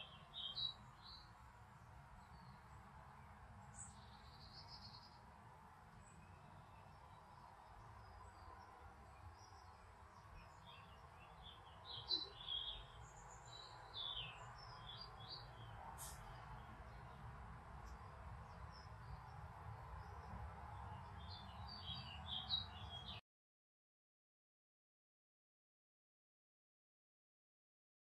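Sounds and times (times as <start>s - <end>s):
songbird chirps: 0.0s - 23.2s.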